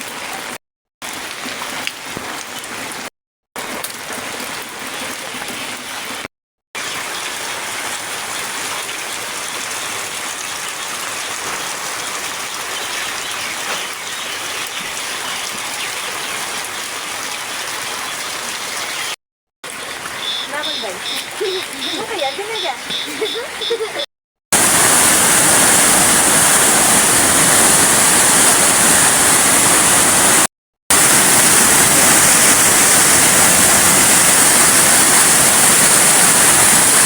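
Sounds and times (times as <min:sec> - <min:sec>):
heavy rain falling: 0:00.0 - 0:19.1, 0:19.7 - 0:24.0, 0:24.6 - 0:37.0.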